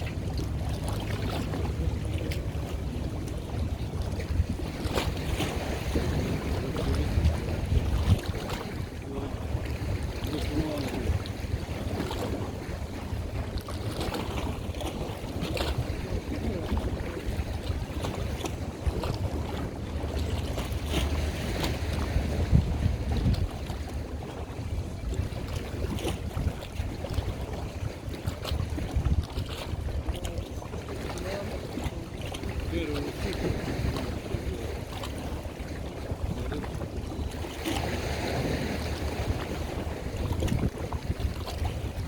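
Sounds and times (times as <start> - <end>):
water and waves: 0.0 - 42.0
wind buffeting microphone: 0.0 - 42.0.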